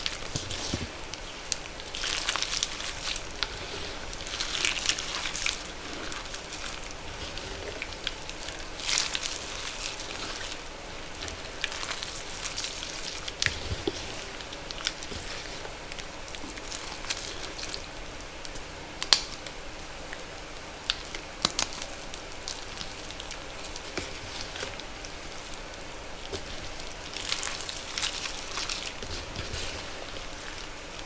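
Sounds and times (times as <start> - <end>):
wet chalk crackling and popping: 0.0 - 31.0.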